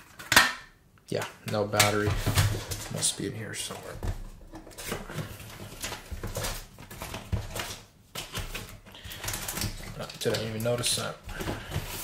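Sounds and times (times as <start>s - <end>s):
cardboard and paper packaging rustling: 1.1s - 12.0s.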